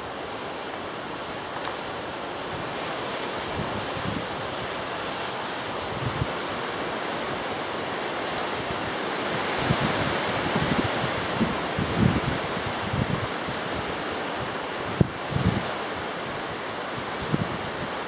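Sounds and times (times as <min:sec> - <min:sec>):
strong gusty wind on microphone: 0:00.0 - 0:18.0.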